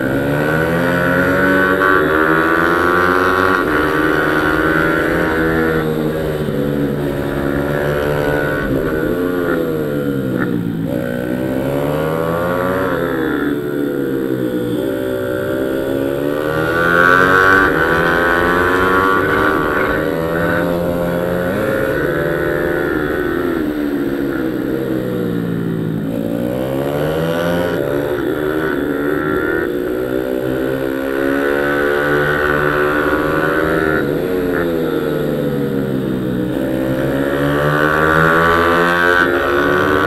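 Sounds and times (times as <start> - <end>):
pit bike engine revving: 0.0 - 40.0.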